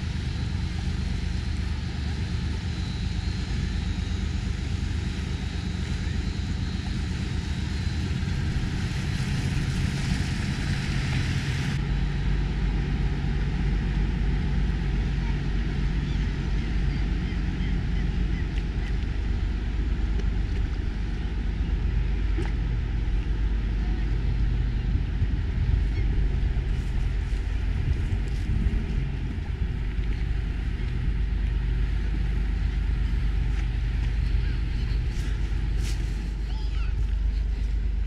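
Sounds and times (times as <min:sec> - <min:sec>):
small boat motor rumbling: 0:00.0 - 0:38.0.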